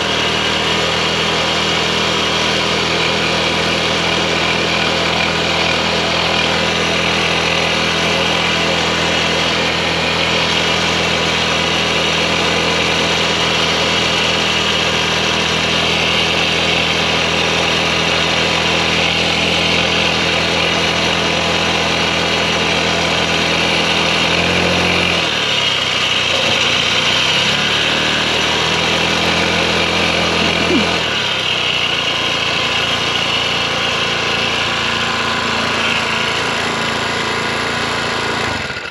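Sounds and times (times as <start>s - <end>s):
small motorbike engine running: 0.0s - 38.9s.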